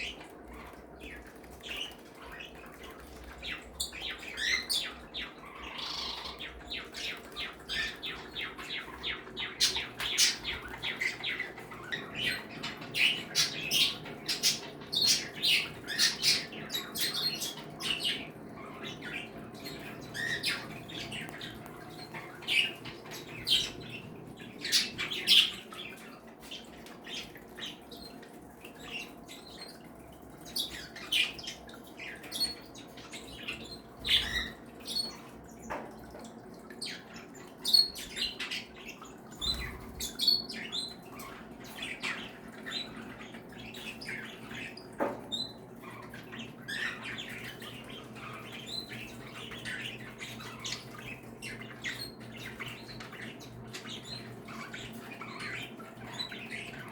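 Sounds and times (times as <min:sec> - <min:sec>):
birds chirping and squawking: 0:00.0 - 0:56.9.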